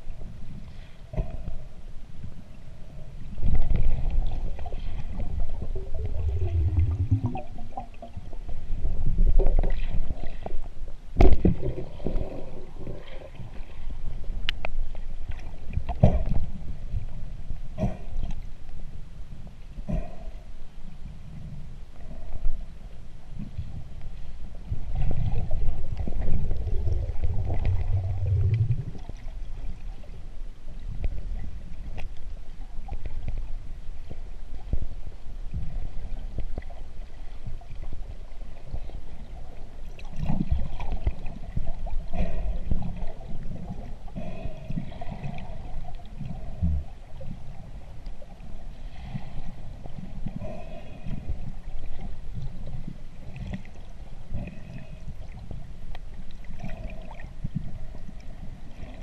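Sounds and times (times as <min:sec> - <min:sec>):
underwater rumble of moving water: 0:00.0 - 0:59.0.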